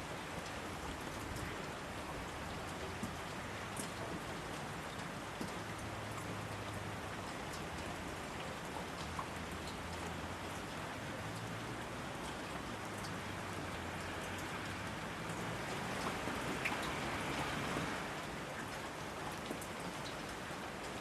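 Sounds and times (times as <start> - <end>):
steady rain hiss: 0.0 - 21.0
raindrops ticking: 2.2 - 21.0.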